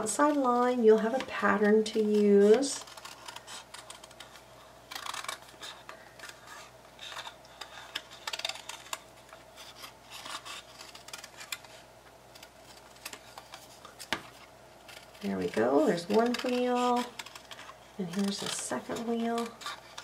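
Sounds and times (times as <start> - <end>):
scissors cutting cardboard: 0.0 - 20.0.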